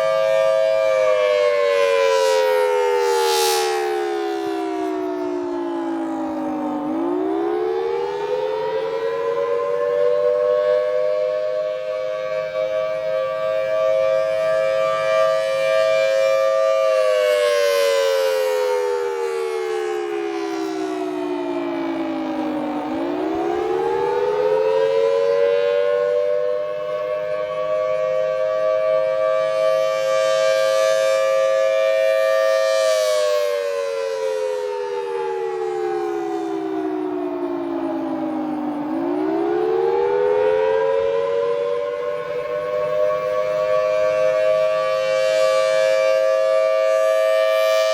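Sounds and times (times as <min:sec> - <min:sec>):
storm siren two-note chord: 0:00.0 - 0:47.9.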